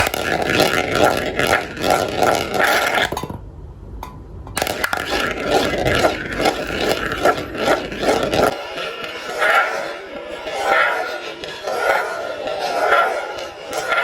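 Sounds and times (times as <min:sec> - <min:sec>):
marbles rattling down a track: 0:00.0 - 0:03.2, 0:04.6 - 0:14.0.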